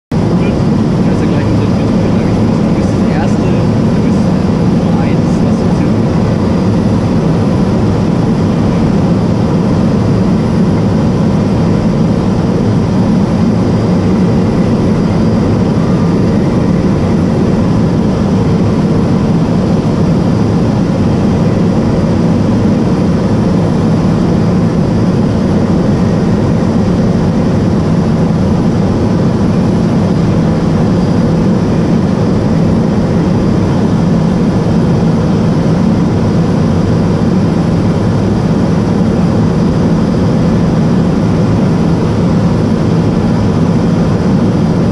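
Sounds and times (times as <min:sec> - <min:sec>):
turboprop engine drone: 0:00.0 - 0:44.9.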